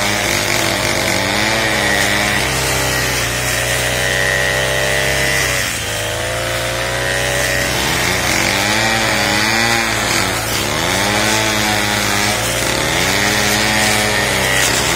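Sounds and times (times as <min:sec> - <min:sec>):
tiller engine running at high speed: 0:00.0 - 0:14.9.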